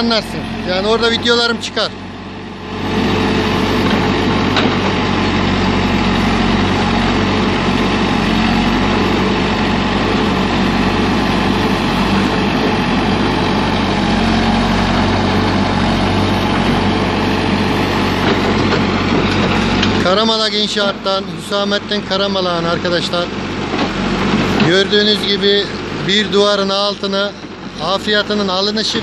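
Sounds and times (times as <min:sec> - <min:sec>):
backhoe digging soil: 0:00.0 - 0:29.0
diesel engine running: 0:00.0 - 0:29.0.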